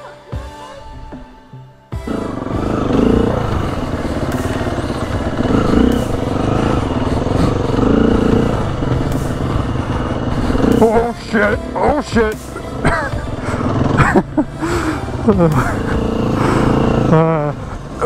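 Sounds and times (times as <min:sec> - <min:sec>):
dirt bike engine revving: 0:02.0 - 0:18.0.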